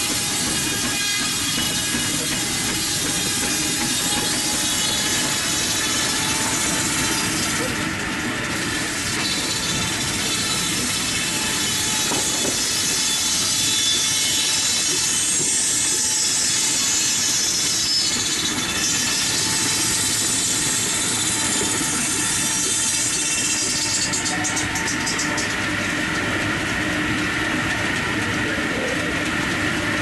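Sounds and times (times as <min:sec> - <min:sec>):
log carriage on rails: 0:00.0 - 0:30.0.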